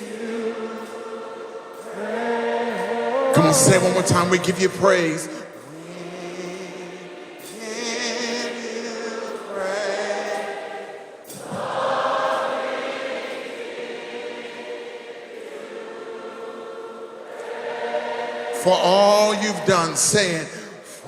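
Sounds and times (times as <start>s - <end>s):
choir and congregation singing: 0.0s - 21.0s.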